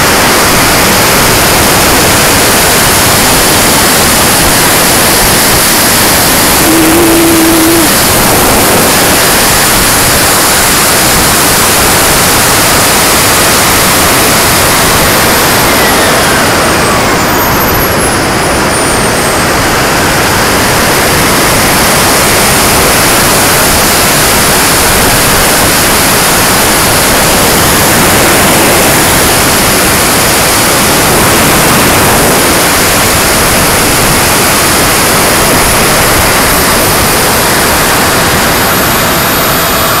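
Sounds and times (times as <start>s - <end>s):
rush of air and turbine noise: 0.0s - 40.0s
thin high whine falling in pitch: 0.1s - 40.0s.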